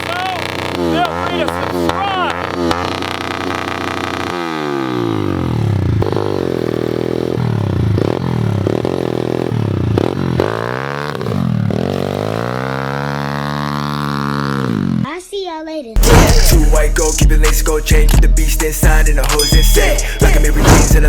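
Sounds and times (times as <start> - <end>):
motorbike engine revving: 0.0 - 15.1, 16.0 - 21.0.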